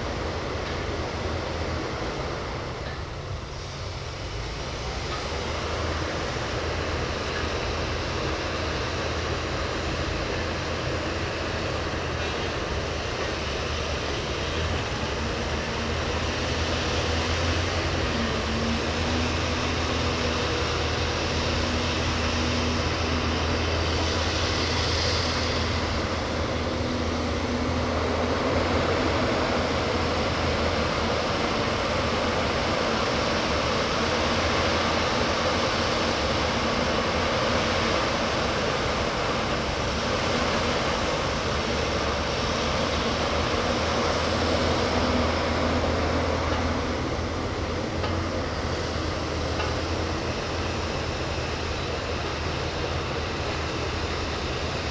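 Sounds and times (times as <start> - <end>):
diesel engine low drone: 0.0 - 54.9.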